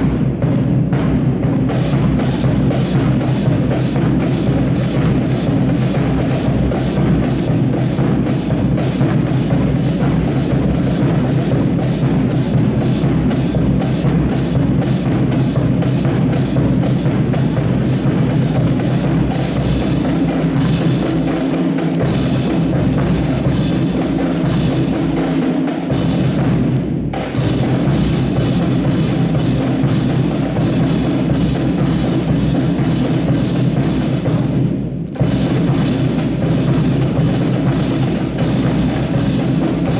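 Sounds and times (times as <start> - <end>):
music with drum beat: 0.0 - 39.9.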